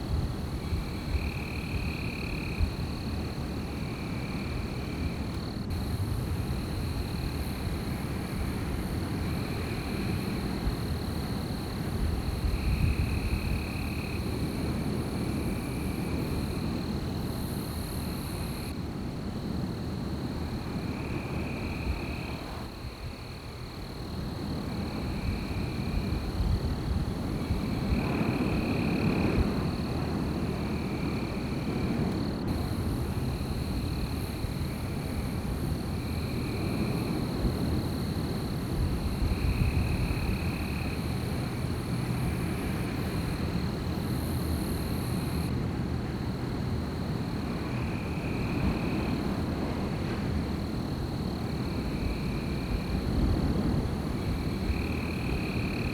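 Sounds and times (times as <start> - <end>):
insects trilling drone: 0.0 - 55.9
wind blowing in gusts: 0.0 - 55.9.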